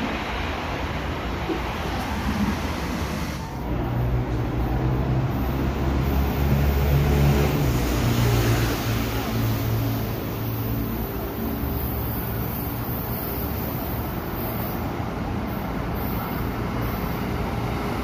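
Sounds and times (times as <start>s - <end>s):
metro train rumbling: 0.0s - 18.0s.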